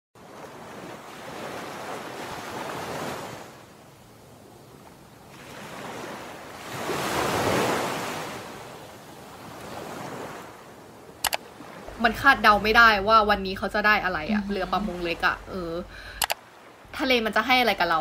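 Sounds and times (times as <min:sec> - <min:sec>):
sea waves washing in: 0:00.2 - 0:18.0.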